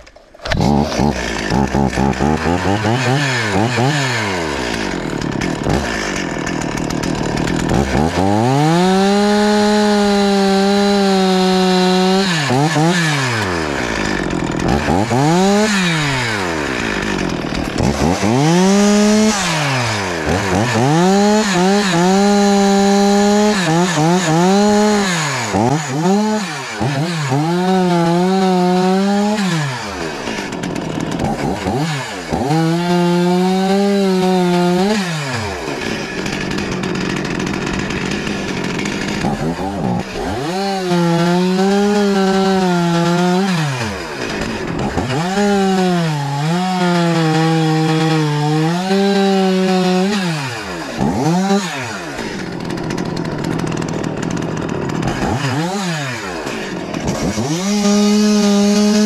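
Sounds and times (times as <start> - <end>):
chainsaw revving and idling: 0.0 - 59.0.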